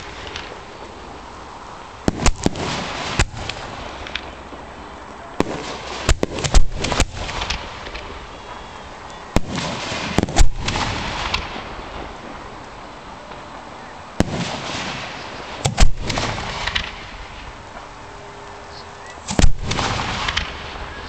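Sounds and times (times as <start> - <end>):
firework crackling hiss: 0.0 - 21.0
firework shells banging: 1.9 - 18.0, 18.7 - 21.0.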